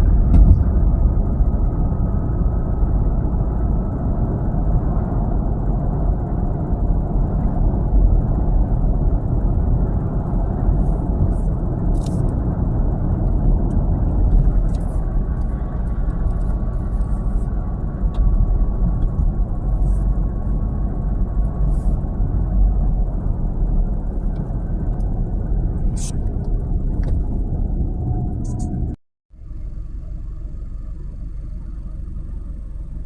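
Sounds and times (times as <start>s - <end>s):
vehicle engine and road noise: 0.0s - 33.0s.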